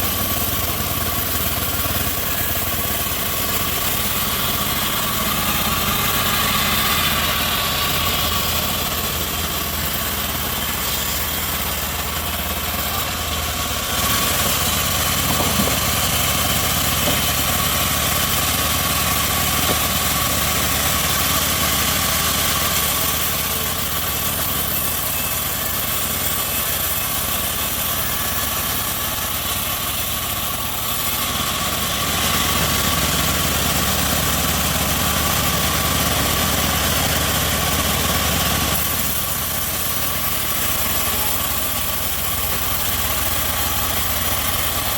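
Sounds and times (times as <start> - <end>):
bandsaw sawmill running: 0.0 - 44.9.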